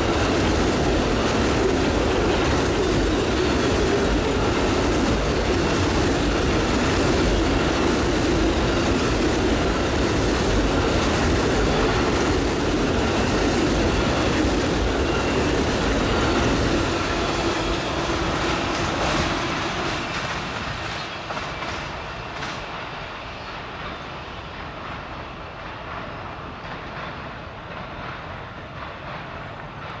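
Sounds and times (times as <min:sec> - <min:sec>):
train wheels clicking over rail joints: 0:00.0 - 0:30.0.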